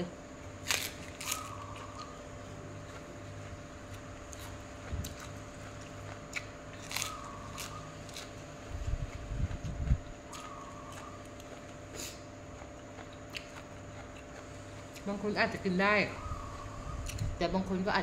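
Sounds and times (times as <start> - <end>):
person chewing and crunching: 0.6 - 15.2.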